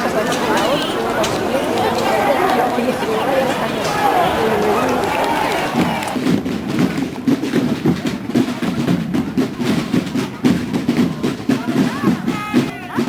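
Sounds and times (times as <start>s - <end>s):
drums beating a rolling rhythm: 0.0s - 13.0s.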